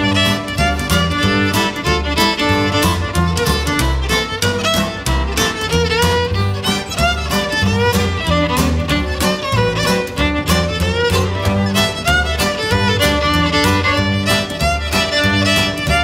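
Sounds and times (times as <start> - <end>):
fiddle melody with sliding notes: 0.0 - 16.0
low bass notes: 0.0 - 16.0
strummed acoustic guitar: 0.0 - 16.0.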